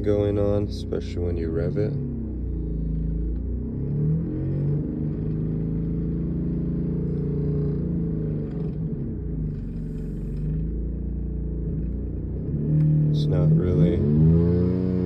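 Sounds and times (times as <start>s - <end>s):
car engine revving with rough exhaust noise: 0.0s - 15.0s.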